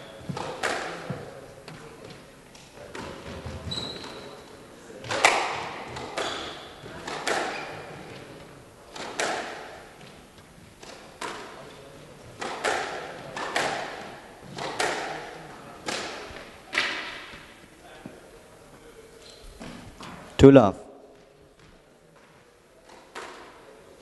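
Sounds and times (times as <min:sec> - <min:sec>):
squash ball hitting rackets and walls: 0:00.0 - 0:02.2, 0:02.8 - 0:17.6, 0:21.2 - 0:23.9.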